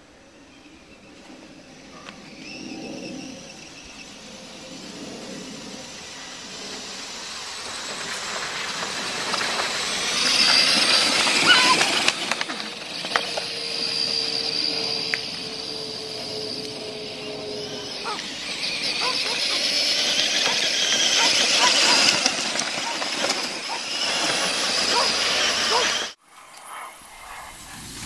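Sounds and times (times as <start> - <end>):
rc truck motor whine: 0.0 - 28.0.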